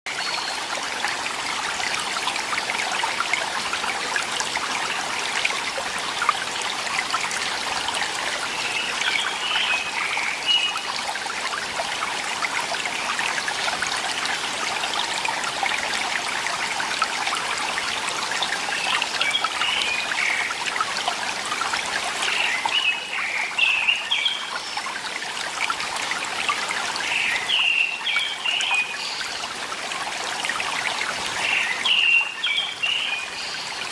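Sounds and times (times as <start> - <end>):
stream water trickling: 0.1 - 33.9.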